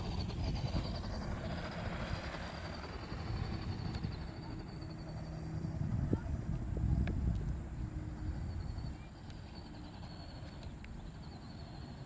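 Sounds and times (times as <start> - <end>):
faint wavering high whine: 0.0 - 12.0
motor running with low rumble: 0.0 - 12.0.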